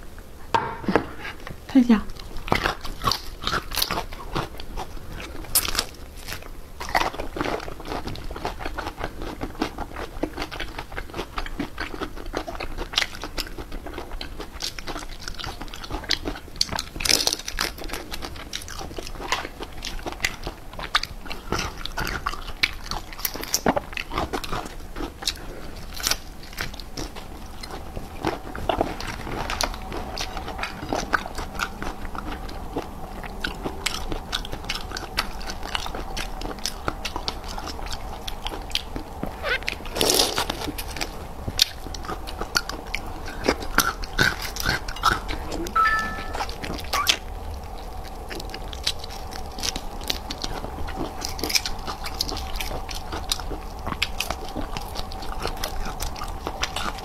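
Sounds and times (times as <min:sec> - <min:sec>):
person sucking and chewing: 0:02.1 - 0:57.0.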